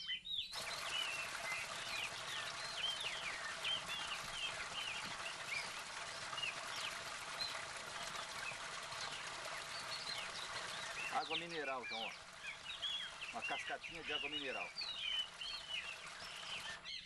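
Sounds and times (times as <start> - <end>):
birds chirping: 0.0 - 17.0
water trickling into pool: 0.5 - 17.0.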